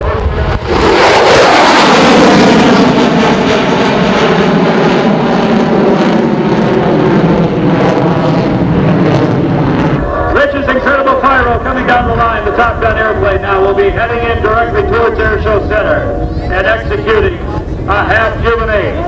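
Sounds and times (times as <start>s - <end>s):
jet fighter flying by: 0.0s - 19.0s.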